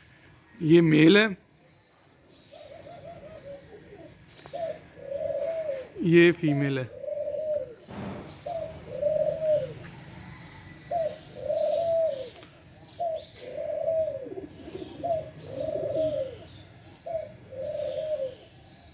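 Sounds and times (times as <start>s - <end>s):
pigeon cooing: 2.5s - 18.9s.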